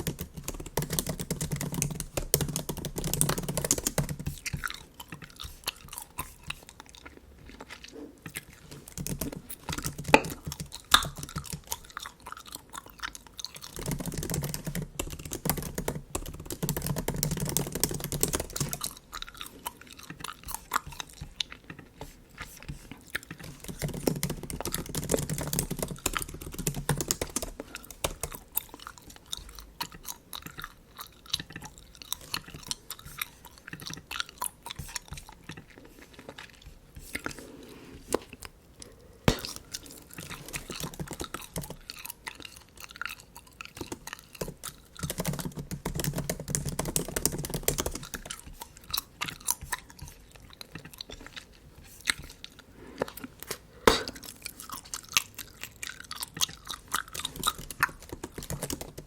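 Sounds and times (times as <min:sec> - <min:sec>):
bubble gum chewing: 0:00.0 - 0:59.0.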